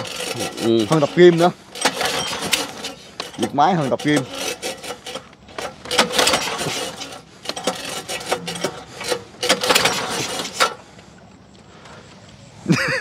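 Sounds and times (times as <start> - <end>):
recoil starter rope pulls: 0.0 - 12.2.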